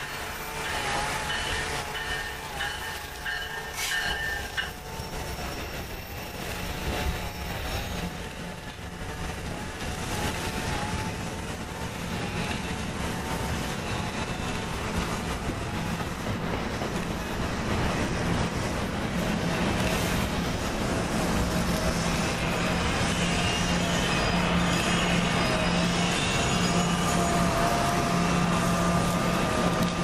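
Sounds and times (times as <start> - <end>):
electric locomotive hum: 0.0 - 30.0
train wheels rolling on rails: 0.0 - 30.0.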